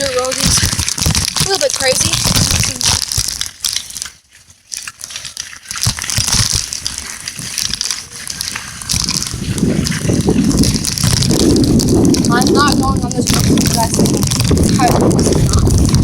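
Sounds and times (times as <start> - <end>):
bicycle tyres rolling on dirt road: 0.0 - 16.0.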